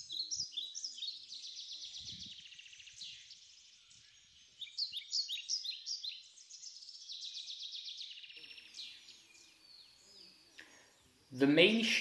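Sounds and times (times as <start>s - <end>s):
small songbirds singing: 0.0s - 12.0s.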